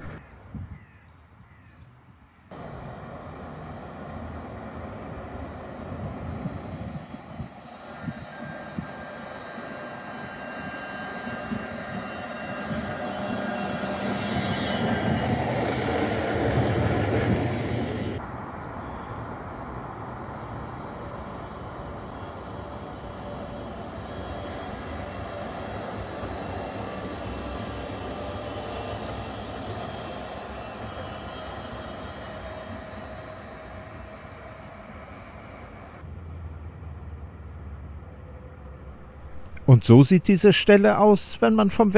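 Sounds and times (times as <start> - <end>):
tram running past: 2.5 - 39.2
distant tram rumble: 2.5 - 41.2.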